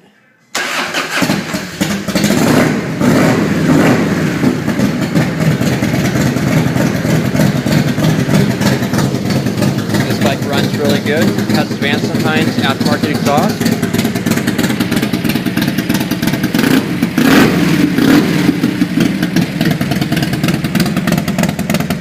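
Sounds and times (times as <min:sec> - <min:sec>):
motorcycle engine starting and idling: 0:00.5 - 0:22.0.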